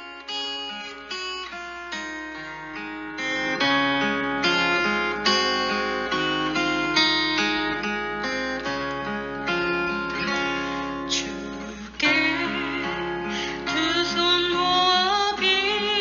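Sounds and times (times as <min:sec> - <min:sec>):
acoustic guitar melody: 0:00.0 - 0:16.0.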